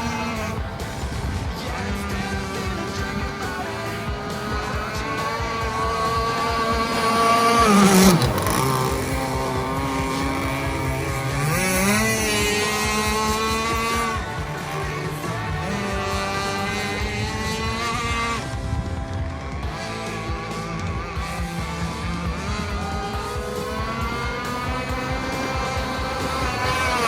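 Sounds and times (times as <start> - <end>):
boat engine revving: 0.0 - 27.0.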